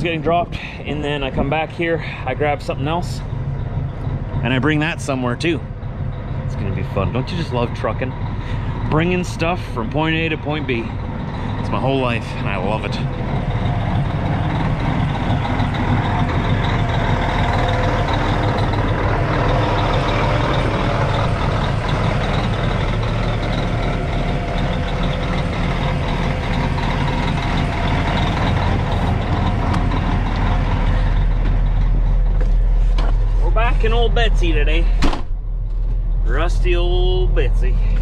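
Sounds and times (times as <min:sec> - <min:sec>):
diesel truck engine idling: 0:00.0 - 0:38.0.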